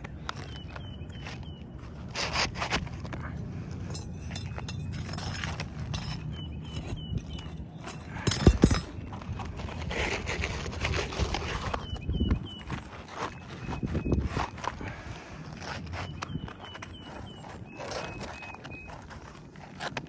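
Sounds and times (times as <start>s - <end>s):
scraping and knocking on roof shingles: 0.0s - 20.0s.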